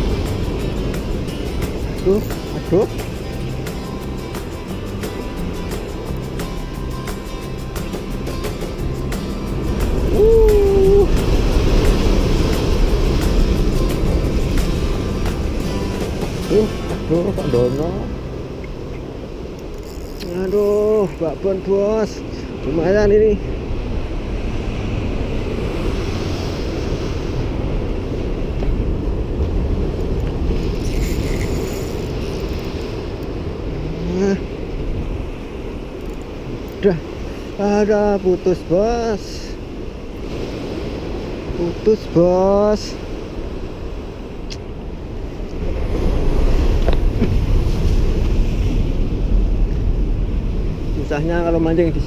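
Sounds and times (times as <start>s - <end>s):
ocean surf breaking: 0.0s - 52.0s
wind buffeting the microphone: 0.0s - 52.0s.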